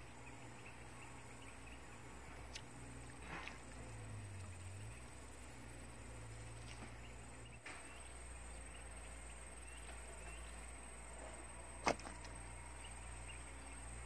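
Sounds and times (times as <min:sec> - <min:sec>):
faint chirping: 0:00.0 - 0:14.0.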